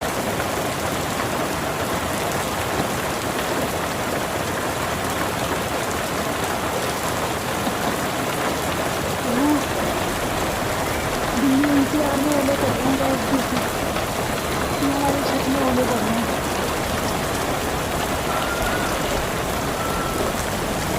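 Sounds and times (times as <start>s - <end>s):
hailstones ticking: 0.0s - 20.9s
rain pattering on a rooftop: 0.0s - 20.9s.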